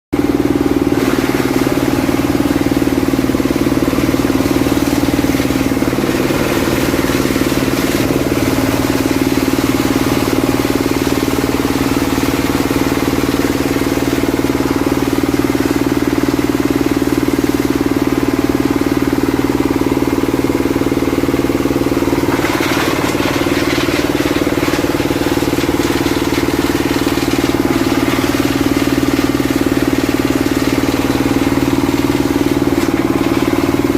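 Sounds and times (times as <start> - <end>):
diesel engine running: 0.2 - 33.9
higher-pitched machine noise: 0.2 - 33.9.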